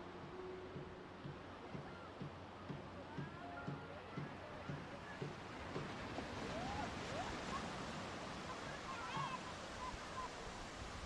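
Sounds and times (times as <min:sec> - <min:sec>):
faint distant voices: 0:00.0 - 0:11.0
sea waves breaking on shore: 0:00.0 - 0:11.0.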